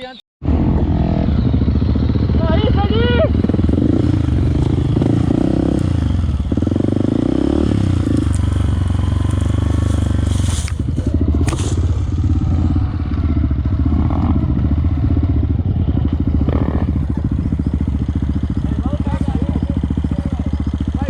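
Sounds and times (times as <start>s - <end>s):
motorcycle engine running: 0.4s - 21.0s.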